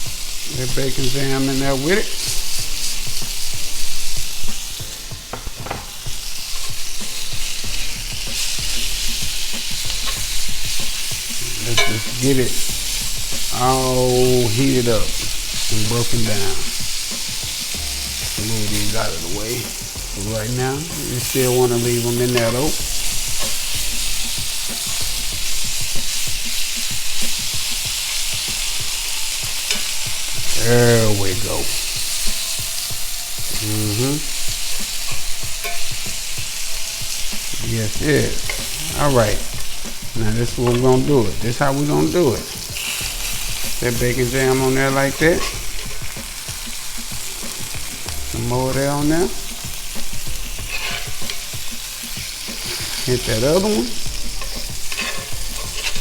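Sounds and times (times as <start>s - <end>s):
food sizzling in a frying pan: 0.0s - 56.0s
utensil scraping a pan: 0.0s - 56.0s.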